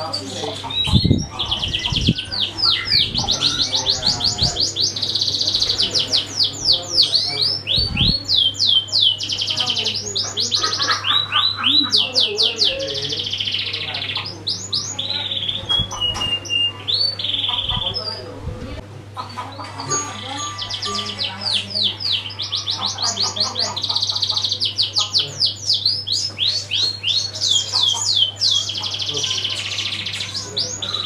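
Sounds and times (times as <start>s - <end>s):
canary singing trills: 0.0s - 18.4s, 19.2s - 31.0s.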